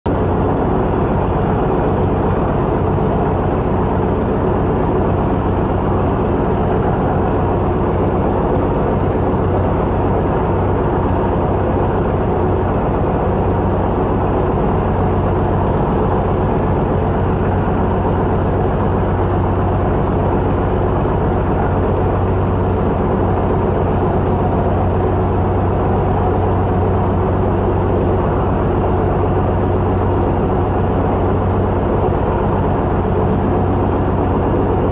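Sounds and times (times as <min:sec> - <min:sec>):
aircraft engine idling drone: 0:00.1 - 0:34.9.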